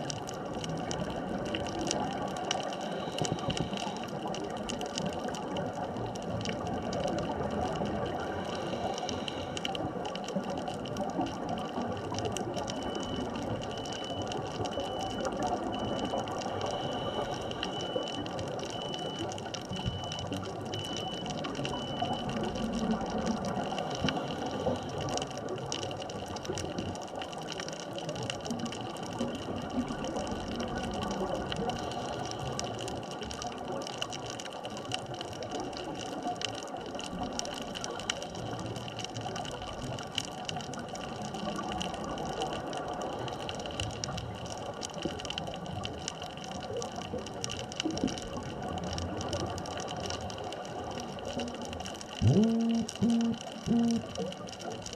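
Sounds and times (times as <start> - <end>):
fine dense crackling: 0.0 - 52.2
faint steady tones: 0.0 - 54.9
underwater wash of noise: 0.0 - 54.9.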